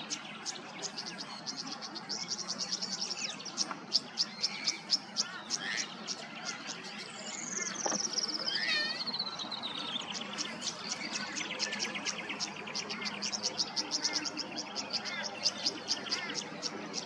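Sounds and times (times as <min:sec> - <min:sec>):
bird trilling song: 0:00.0 - 0:17.0.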